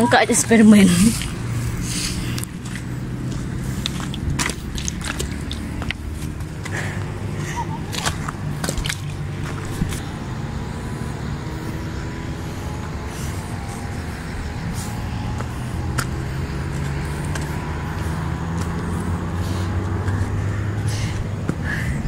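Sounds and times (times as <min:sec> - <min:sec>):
distant motor traffic drone: 0:00.0 - 0:22.0.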